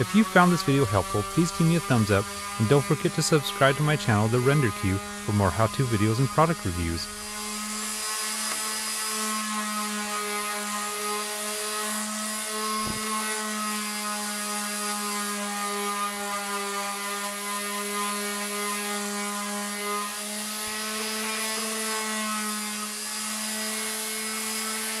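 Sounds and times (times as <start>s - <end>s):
electric sander humming: 0.0s - 25.0s.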